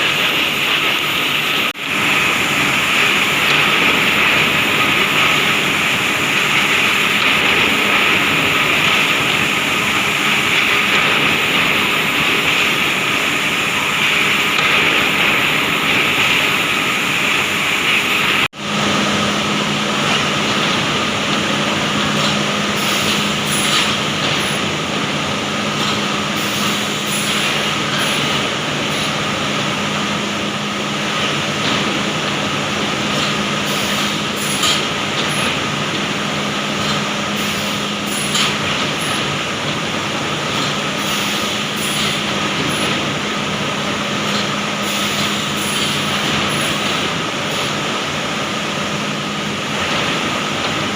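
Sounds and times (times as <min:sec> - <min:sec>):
industrial machinery hum: 0:00.0 - 0:50.9.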